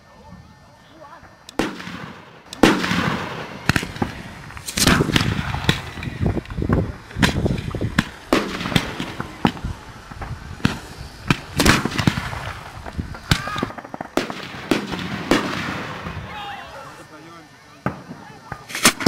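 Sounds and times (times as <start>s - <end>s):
fireworks bangs with rumbling echo: 1.3s - 16.6s, 17.8s - 19.0s.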